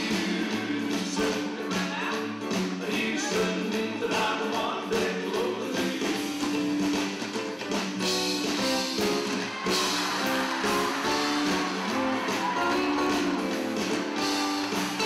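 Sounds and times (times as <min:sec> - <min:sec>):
bass guitar: 0:00.0 - 0:15.0
strummed acoustic guitars: 0:00.0 - 0:15.0.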